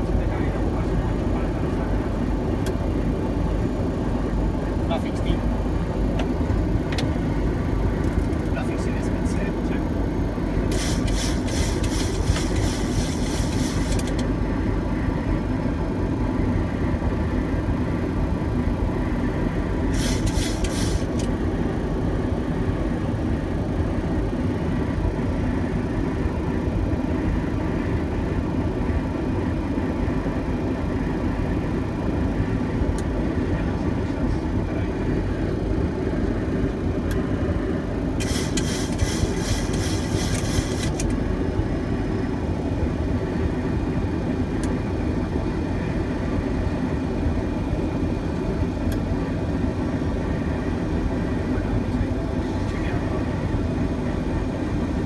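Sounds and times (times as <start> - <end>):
airflow and engine rush: 0.0 - 55.0.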